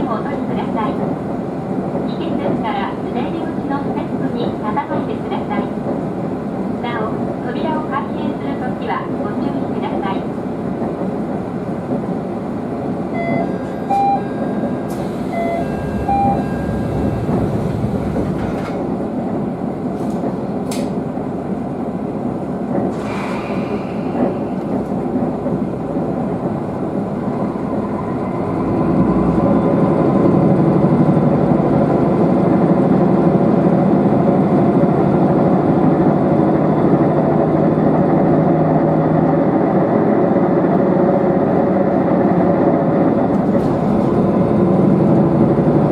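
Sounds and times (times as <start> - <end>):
railcar rumbling on rails: 0.0 - 45.9
steady engine hum: 0.0 - 45.9.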